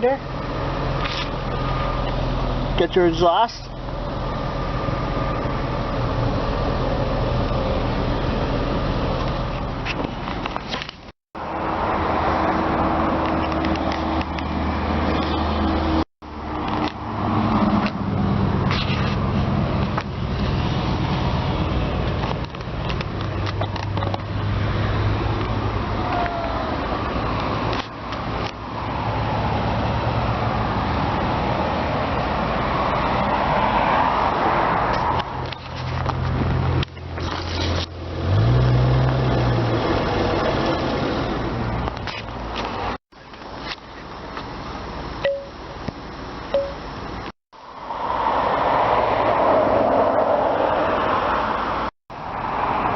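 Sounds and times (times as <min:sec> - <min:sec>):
passing vehicle road noise: 0:00.0 - 0:43.0, 0:47.6 - 0:52.9
car engine humming: 0:00.0 - 0:52.8.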